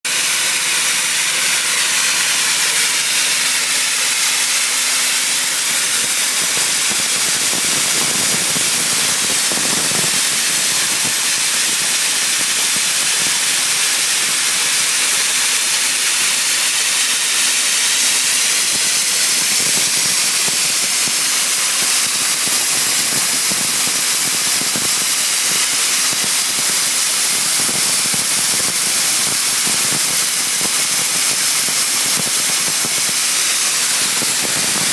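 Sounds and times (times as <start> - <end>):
dry ice blasting hiss: 0.1 - 34.9.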